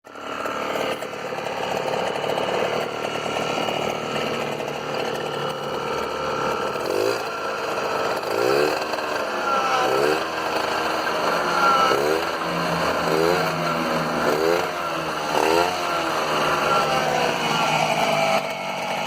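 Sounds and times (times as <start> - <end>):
small engine running and revving: 0.1 - 19.0.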